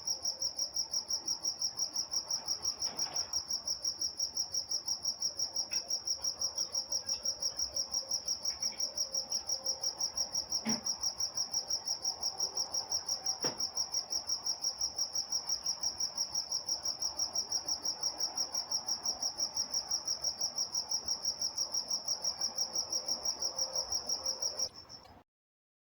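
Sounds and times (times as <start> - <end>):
crickets chirping: 0.0 - 25.1.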